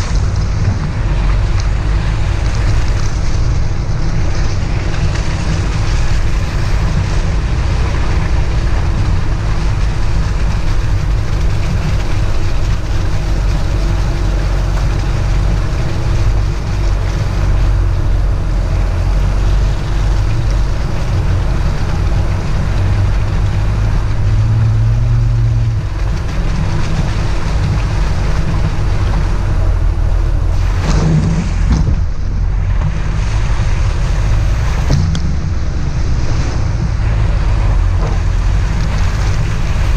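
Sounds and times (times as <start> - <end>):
vehicle engine running: 0.0 - 39.9
wind buffeting microphone: 0.0 - 39.9.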